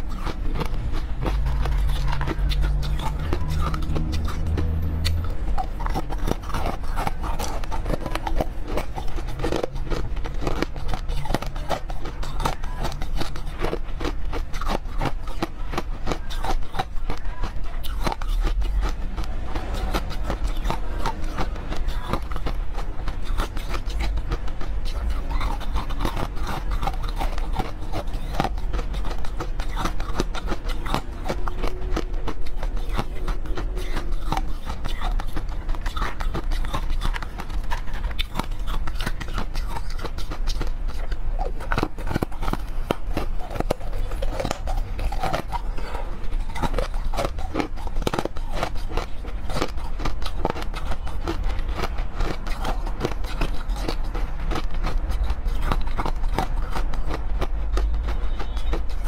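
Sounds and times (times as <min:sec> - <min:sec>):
crunching frozen cubes: 0:00.0 - 0:59.0.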